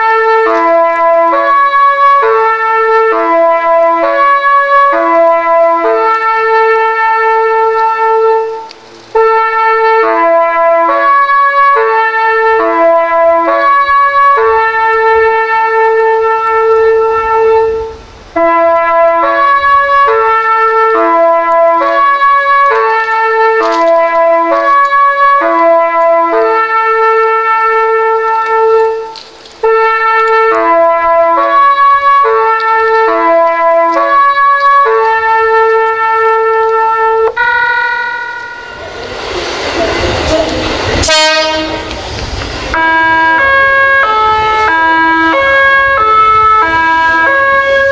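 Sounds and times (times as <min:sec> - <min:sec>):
train music horn tune: 0:00.0 - 0:42.0, 0:42.7 - 0:47.9.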